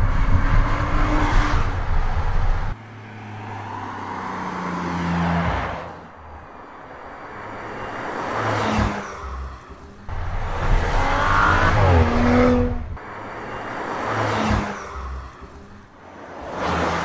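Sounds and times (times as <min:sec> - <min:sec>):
car engine and tyres passing by: 0:00.0 - 0:17.0.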